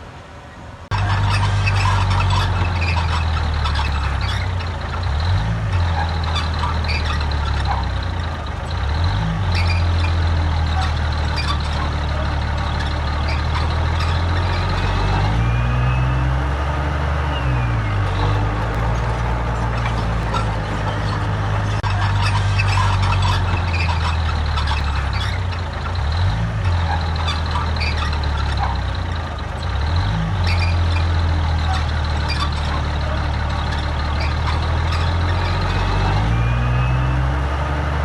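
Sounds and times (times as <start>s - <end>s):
heavy diesel engine running: 0.9s - 38.0s.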